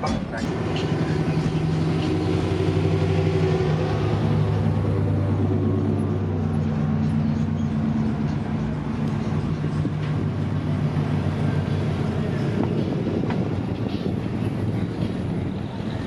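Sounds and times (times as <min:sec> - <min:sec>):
traffic rumble: 0:00.0 - 0:16.0
vehicle engine running: 0:00.3 - 0:16.0.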